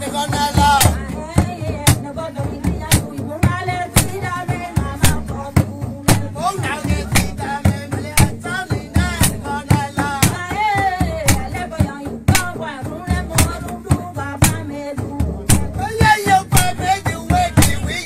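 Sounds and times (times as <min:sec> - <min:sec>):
pop song with drum beat: 0:00.0 - 0:18.0.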